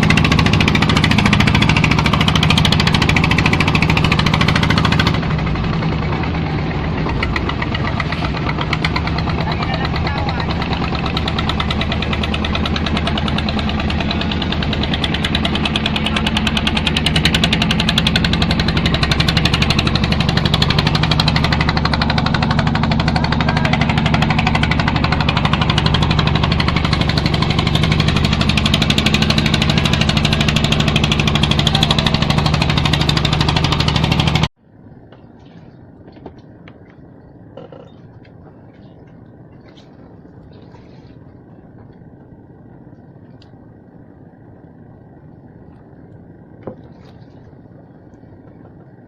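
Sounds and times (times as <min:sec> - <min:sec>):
boat engine chugging: 0:00.0 - 0:49.0.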